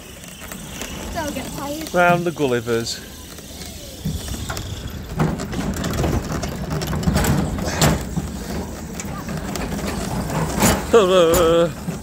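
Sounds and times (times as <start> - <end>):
pedal drive and wheels rattling: 0.0 - 12.0.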